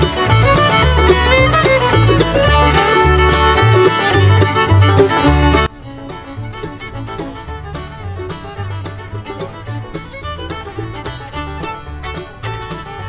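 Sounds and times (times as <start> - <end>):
bluegrass fiddle and banjo music: 0.0 - 13.0.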